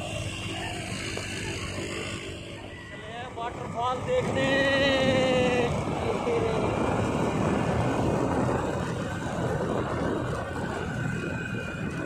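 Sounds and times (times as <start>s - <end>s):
vehicle moving: 0.0s - 12.0s.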